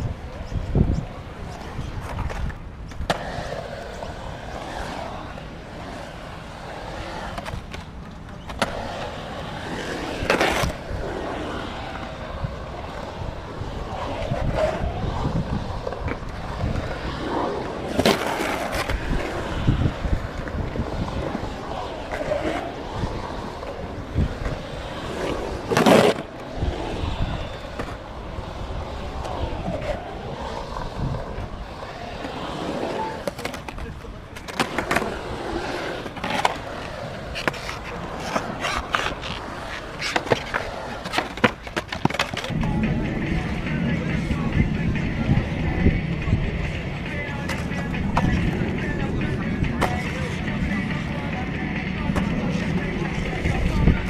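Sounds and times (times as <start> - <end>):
skateboard clacks: 0.0 - 54.0
skateboard wheels rolling on concrete: 0.0 - 54.0.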